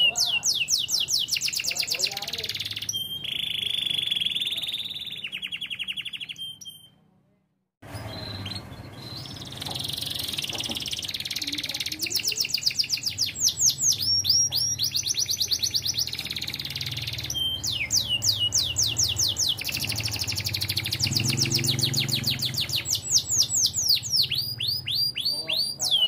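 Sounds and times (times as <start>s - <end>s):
canary singing trills: 0.0s - 7.0s, 7.8s - 26.0s.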